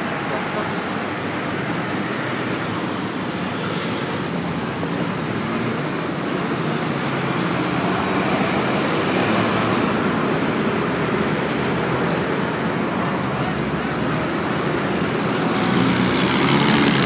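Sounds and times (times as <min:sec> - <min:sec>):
road traffic engine hum: 0:00.0 - 0:17.0
tyre noise on road: 0:00.0 - 0:17.0.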